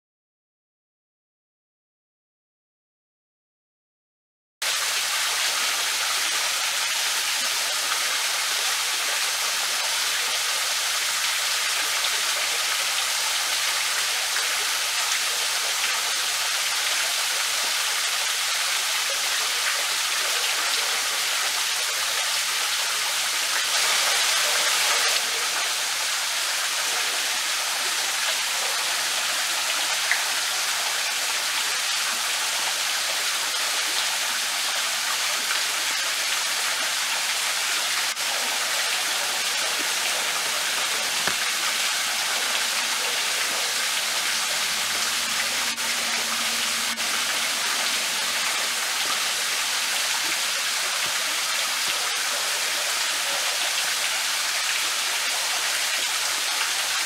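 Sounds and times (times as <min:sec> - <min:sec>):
small waterfall splashing: 0:04.6 - 0:57.0.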